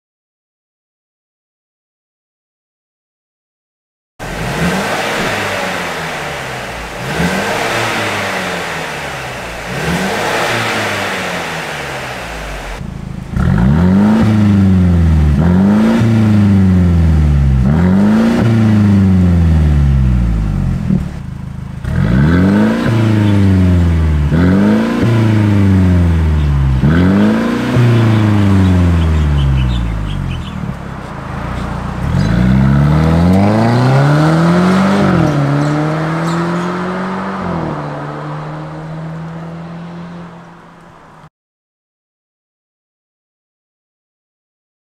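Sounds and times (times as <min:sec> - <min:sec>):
car engine revving: 0:04.2 - 0:41.3.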